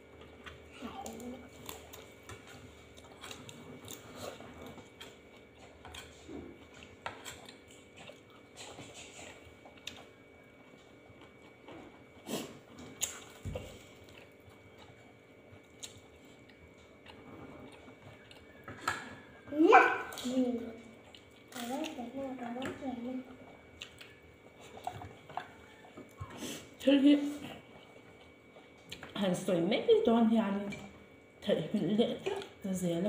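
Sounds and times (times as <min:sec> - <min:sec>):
people chewing food: 0:00.0 - 0:33.0.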